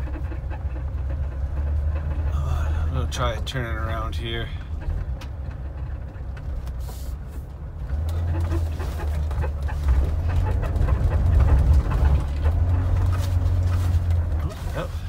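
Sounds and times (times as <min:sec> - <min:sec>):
car engine drone stumbling: 0:00.0 - 0:15.0.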